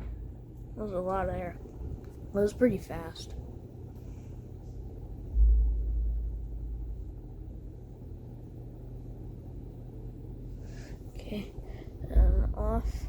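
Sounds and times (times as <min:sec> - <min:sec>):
ceiling fan airflow rumble: 0:00.0 - 0:13.0
steady low hum: 0:00.0 - 0:13.0.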